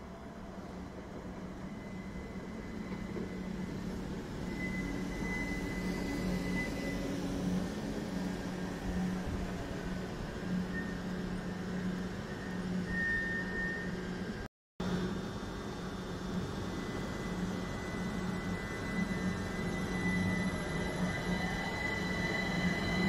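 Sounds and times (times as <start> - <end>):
electric train humming past: 0.0 - 23.0
faint high whine: 0.0 - 23.0.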